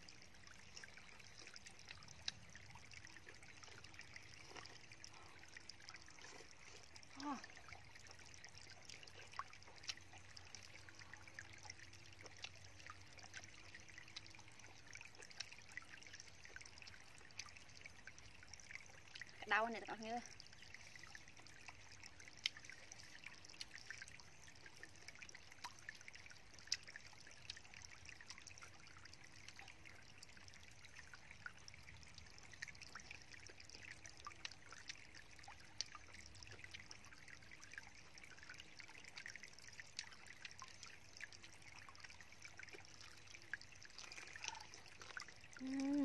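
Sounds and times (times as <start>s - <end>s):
stream trickling: 0.0s - 46.0s.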